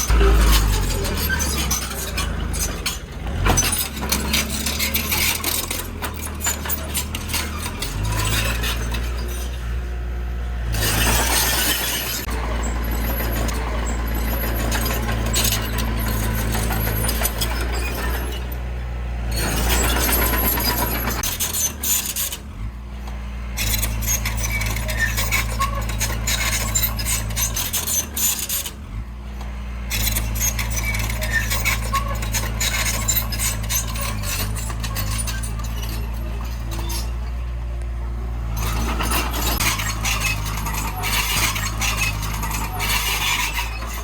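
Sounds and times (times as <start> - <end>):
metallic rattling and clanking: 0.0 - 9.8, 10.7 - 22.5, 29.4 - 44.0
diesel machinery running: 0.0 - 44.0.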